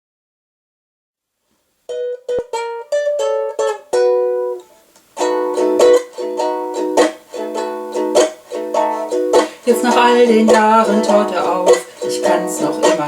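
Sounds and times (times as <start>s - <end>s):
ukulele plucked notes: 1.9s - 13.0s
ukulele strummed chords: 1.9s - 13.0s.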